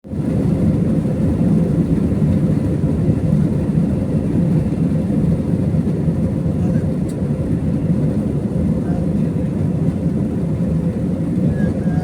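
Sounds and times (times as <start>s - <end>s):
jet engines rumbling: 0.1s - 12.0s.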